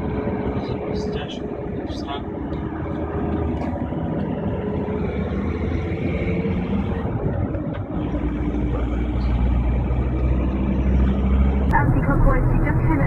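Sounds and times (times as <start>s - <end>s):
trucks passing rumble: 0.0s - 13.0s.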